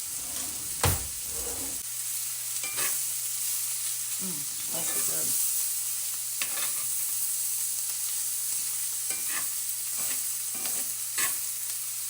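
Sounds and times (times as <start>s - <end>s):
cabbage sizzling in a frying pan: 1.8s - 12.0s.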